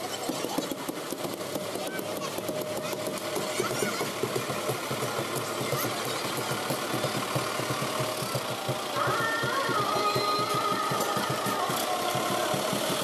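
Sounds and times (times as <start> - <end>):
diesel tractor engine clattering: 0.0 - 13.0.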